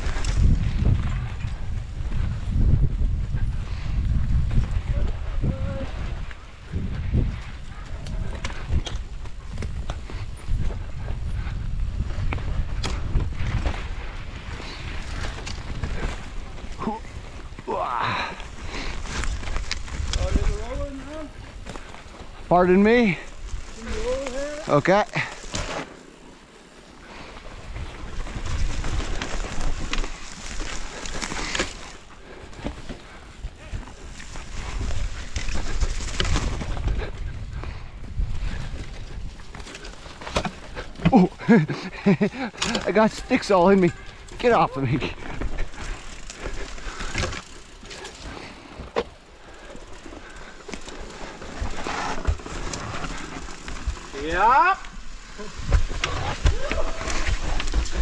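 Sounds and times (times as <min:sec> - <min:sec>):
bike rattling and knocking: 0:00.0 - 0:05.2, 0:06.2 - 0:58.0
bike tyres rumbling on dirt: 0:00.0 - 0:58.0.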